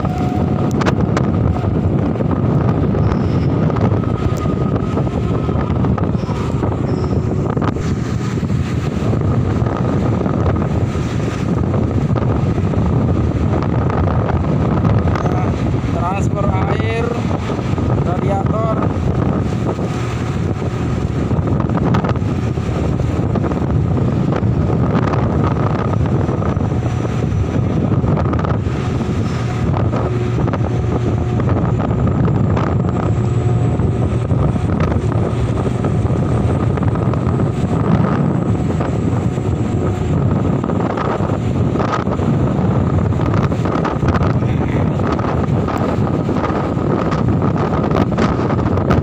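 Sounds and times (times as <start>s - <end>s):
heavy machinery droning: 0.0s - 10.9s, 18.8s - 48.7s
wind buffeting microphone: 0.0s - 49.0s.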